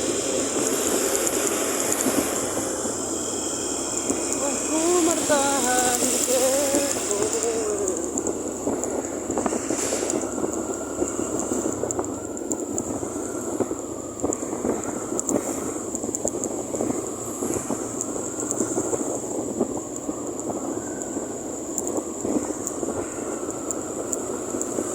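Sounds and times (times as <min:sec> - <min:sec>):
high-pitched hiss: 0:00.0 - 0:24.9
motorcycle engine and road noise: 0:00.0 - 0:24.9
small crackles: 0:00.0 - 0:24.9
wind buffeting microphone: 0:00.0 - 0:24.9.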